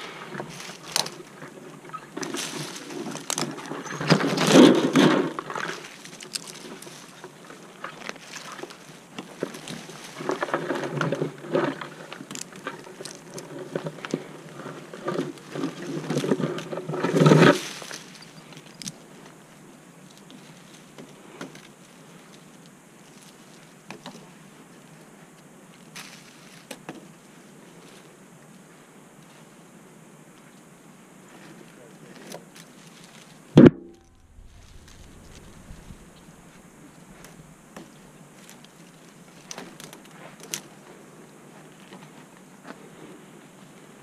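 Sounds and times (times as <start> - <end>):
scraping and rustling against branches: 0.0 - 44.0.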